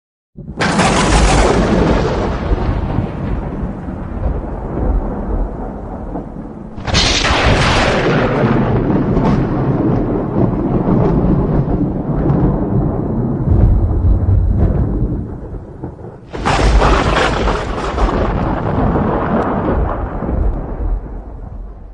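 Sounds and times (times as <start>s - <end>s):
sharp thunder crack: 0.4s - 21.9s
thunder rumbling: 0.4s - 21.9s.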